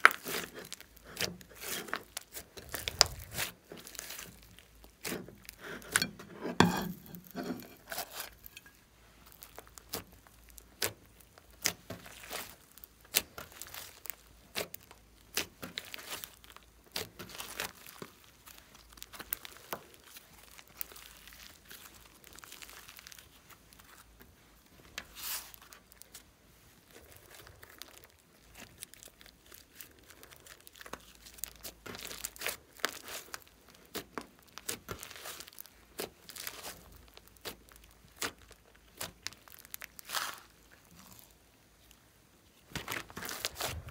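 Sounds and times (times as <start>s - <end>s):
sticky slime crackling: 0.0s - 6.1s, 9.2s - 43.9s.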